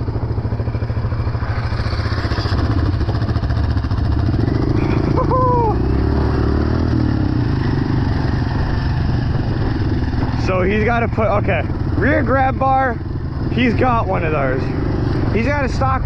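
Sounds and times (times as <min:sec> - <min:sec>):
off-road vehicle engine low revs: 0:01.4 - 0:16.0.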